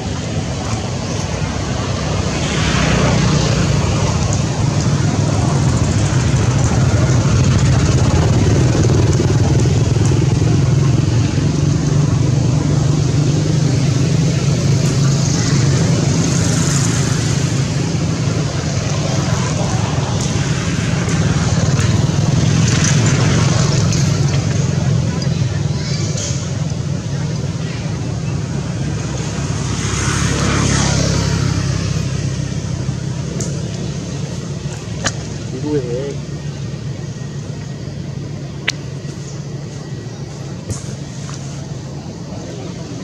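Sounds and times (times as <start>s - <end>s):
engine droning: 0.0s - 43.0s.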